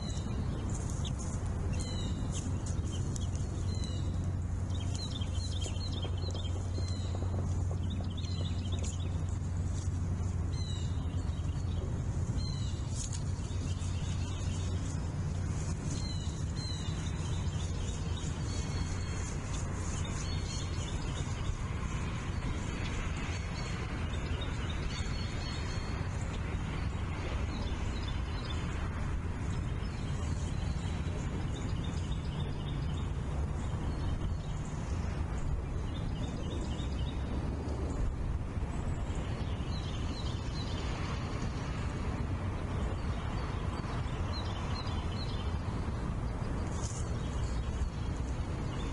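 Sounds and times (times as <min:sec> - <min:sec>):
birds chirping: 0:00.0 - 0:48.9
steady low hum: 0:00.0 - 0:48.9.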